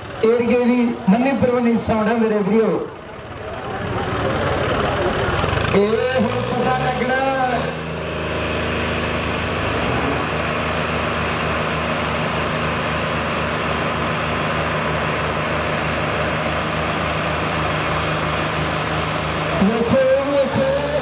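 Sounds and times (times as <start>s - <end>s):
tractor engines under heavy load: 0.0s - 21.0s.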